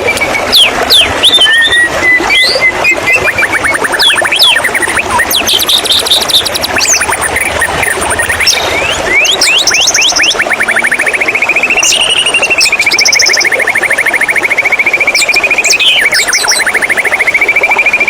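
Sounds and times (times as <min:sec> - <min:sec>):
high whistled bird notes: 0:00.0 - 0:18.0
bird trilling: 0:00.6 - 0:18.0.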